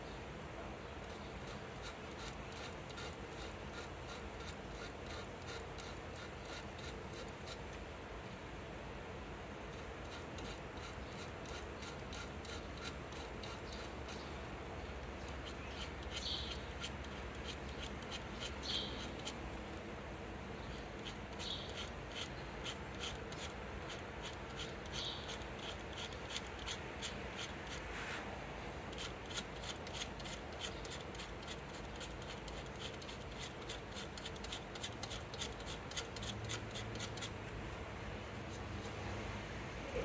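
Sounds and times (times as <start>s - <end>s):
blade scratching a shaft: 1.1s - 7.8s, 9.7s - 19.9s, 20.7s - 37.6s, 38.3s - 39.0s.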